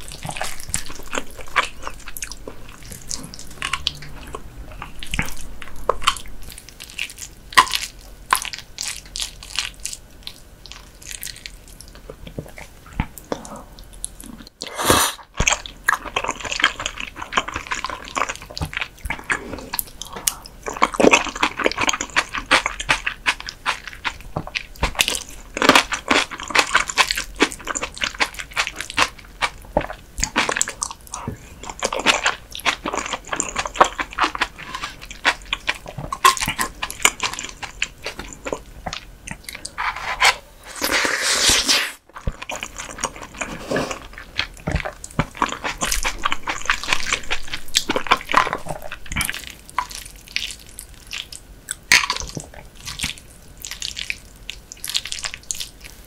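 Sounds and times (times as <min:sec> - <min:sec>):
wet chewing and slurping: 0:00.0 - 0:56.0.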